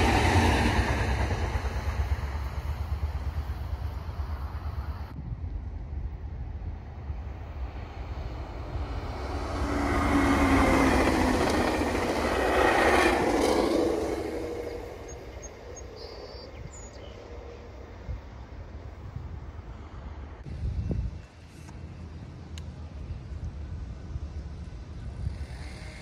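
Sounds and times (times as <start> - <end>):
train wheels rushing on rail: 0.0 - 26.0
wind rumbling on microphone: 0.0 - 26.0.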